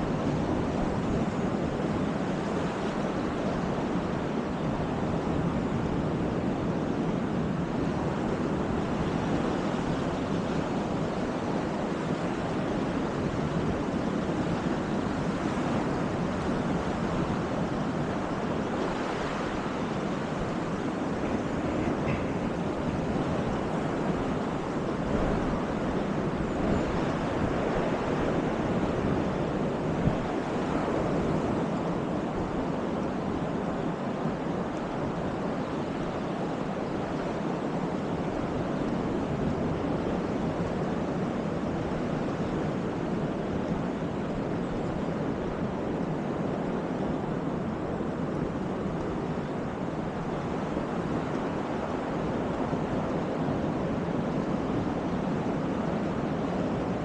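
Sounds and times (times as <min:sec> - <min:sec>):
surf washing onto beach: 0:00.0 - 0:57.0
wind: 0:00.0 - 0:57.0.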